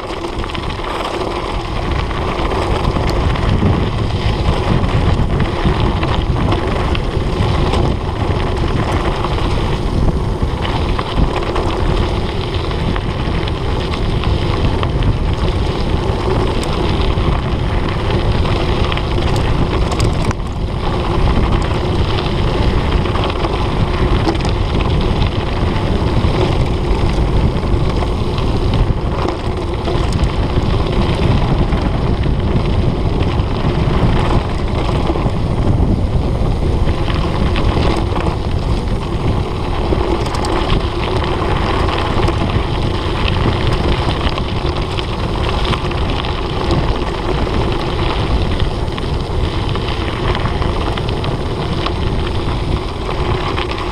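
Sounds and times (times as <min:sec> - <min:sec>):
bike tyres rumbling on gravel: 0:00.0 - 0:53.9
wind buffeting microphone: 0:00.0 - 0:53.9.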